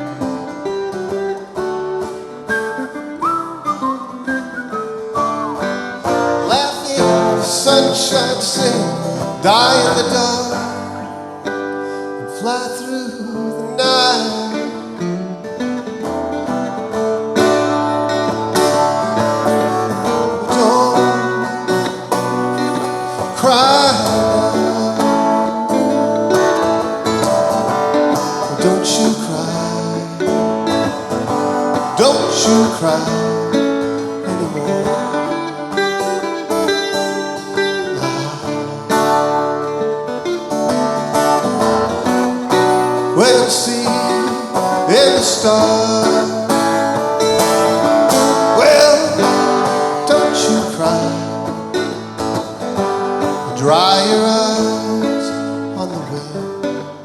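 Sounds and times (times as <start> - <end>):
acoustic guitar strumming chords: 0.0 - 57.0.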